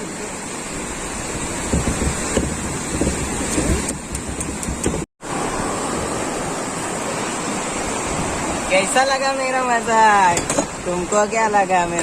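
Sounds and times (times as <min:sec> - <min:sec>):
sea waves: 0:00.0 - 0:12.0
wind buffeting microphone: 0:00.8 - 0:12.0.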